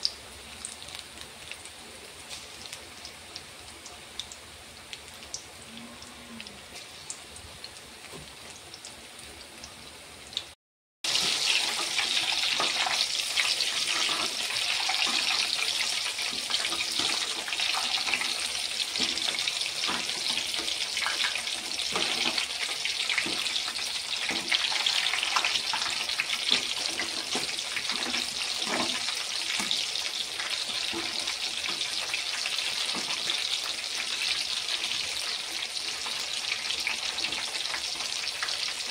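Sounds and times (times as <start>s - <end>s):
deep-frying in hot oil: 0.0s - 38.9s.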